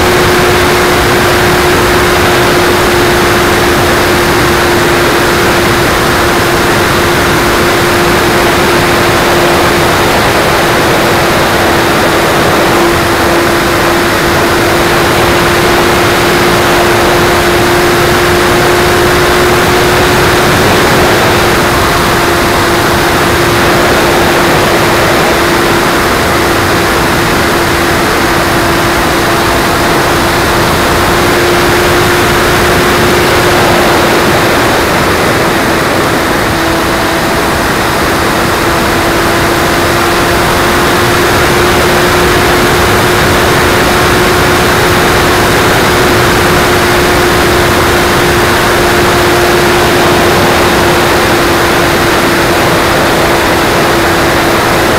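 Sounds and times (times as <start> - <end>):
electric motor and propeller: 0.0 - 54.9
wind rush over microphone: 0.0 - 54.9.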